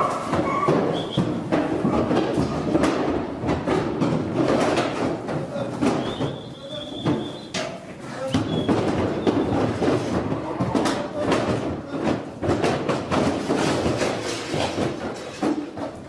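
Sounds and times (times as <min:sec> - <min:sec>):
cattle hooves on trailer ramp: 0:00.0 - 0:16.0.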